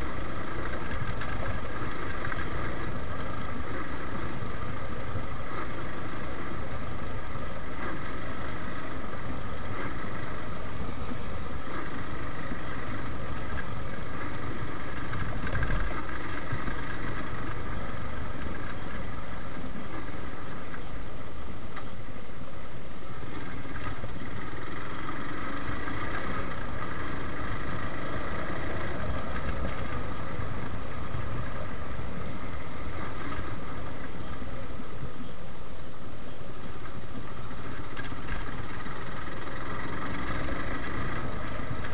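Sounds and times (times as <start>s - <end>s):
motorcycle engine cruising: 0.0s - 21.1s, 23.0s - 35.4s, 36.2s - 41.9s
wind and road noise: 0.0s - 41.9s.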